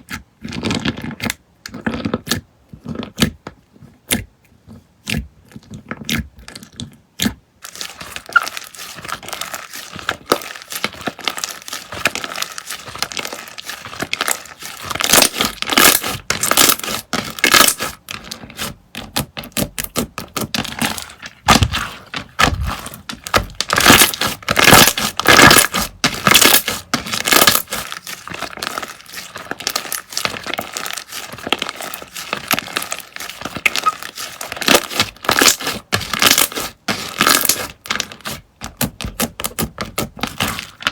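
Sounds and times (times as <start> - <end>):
slime squished by hand: 5.0 - 40.9.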